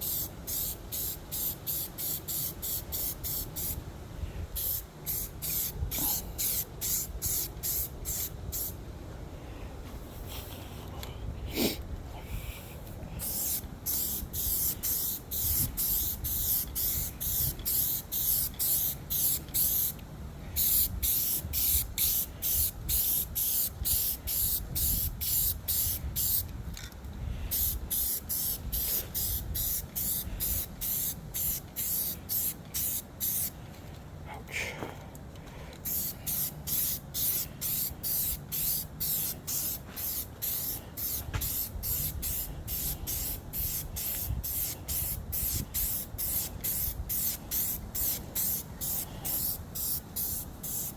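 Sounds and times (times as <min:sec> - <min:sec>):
spray paint can hissing: 0:00.0 - 0:03.8, 0:04.6 - 0:08.8, 0:13.2 - 0:20.0, 0:20.6 - 0:26.5, 0:27.5 - 0:33.5, 0:35.8 - 0:50.9.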